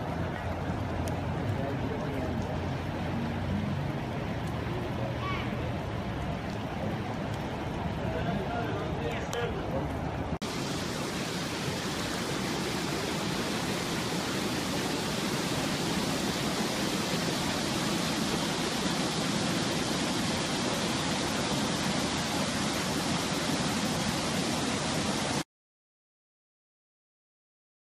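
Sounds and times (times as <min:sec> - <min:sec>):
floodwater rushing: 0:00.0 - 0:25.4.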